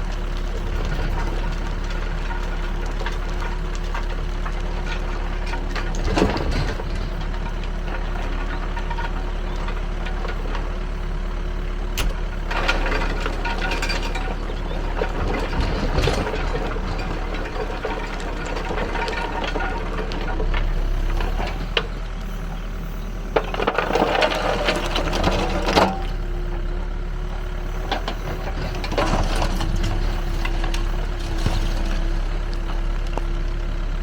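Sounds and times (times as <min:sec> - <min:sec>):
diesel engine running: 0:00.0 - 0:34.0
clattering and rattling: 0:00.6 - 0:10.7, 0:12.0 - 0:26.7, 0:27.3 - 0:33.4.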